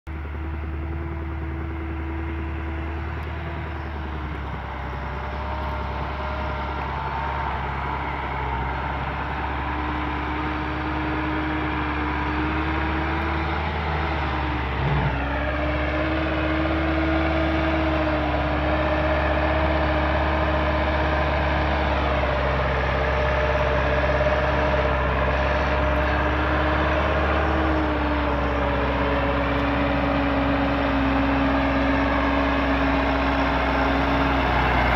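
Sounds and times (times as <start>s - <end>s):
tractor diesel engine labouring: 0.1s - 34.9s.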